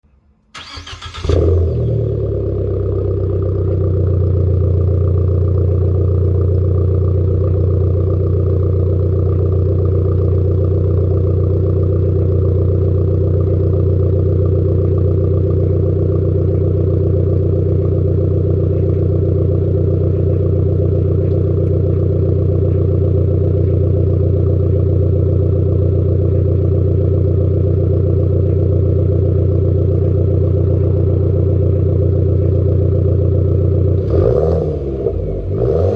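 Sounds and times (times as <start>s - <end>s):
car engine idling: 0.5s - 35.9s.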